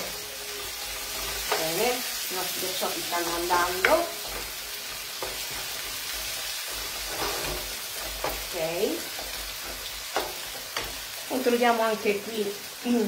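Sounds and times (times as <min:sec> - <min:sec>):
vegetables sizzling in wok: 0:00.0 - 0:13.0.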